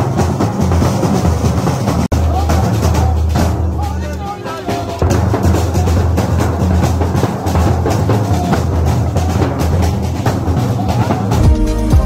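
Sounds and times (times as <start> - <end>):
marching drum band: 0.0 - 12.0.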